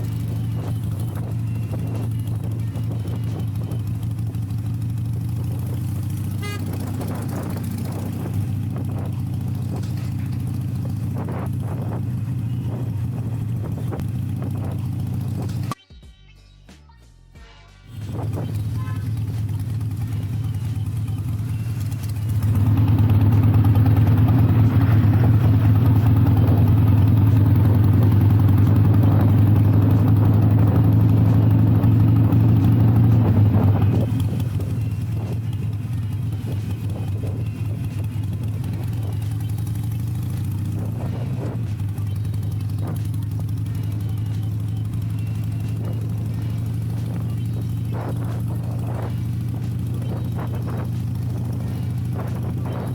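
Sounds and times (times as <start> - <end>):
motorcycle engine running: 0.0 - 15.8, 17.9 - 52.9.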